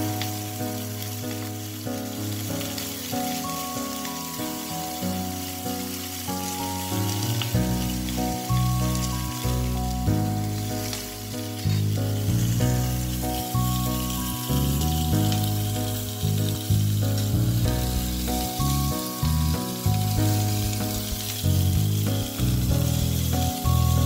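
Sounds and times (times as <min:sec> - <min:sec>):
background music with sustained notes: 0:00.0 - 0:24.0
meat sizzling in a grill pan: 0:00.0 - 0:24.0.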